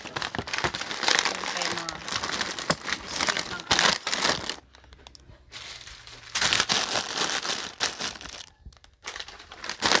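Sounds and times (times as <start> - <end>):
plastic packets crinkling: 0.0 - 10.0.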